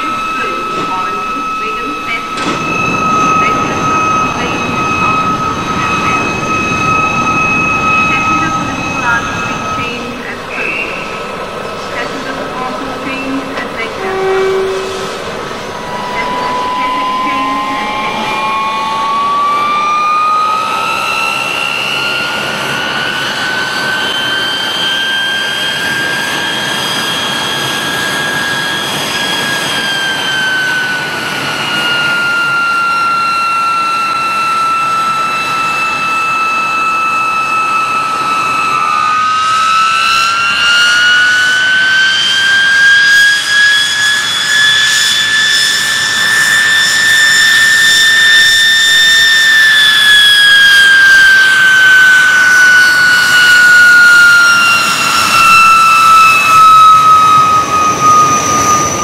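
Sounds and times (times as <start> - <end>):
gas turbine whine from speaker: 0.0 - 59.0.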